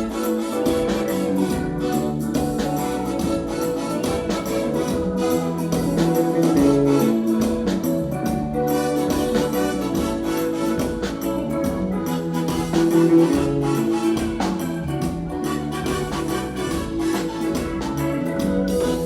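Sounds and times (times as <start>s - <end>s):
gospel music: 0.0s - 19.0s
held keyboard chords: 0.0s - 19.0s
steady beat: 0.0s - 19.0s.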